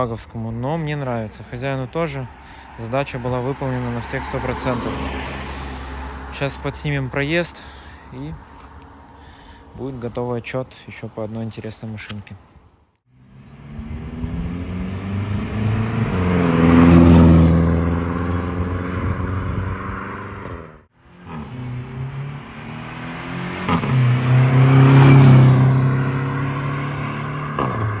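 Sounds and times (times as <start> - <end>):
car driving past: 1.8 - 9.4, 13.1 - 28.0.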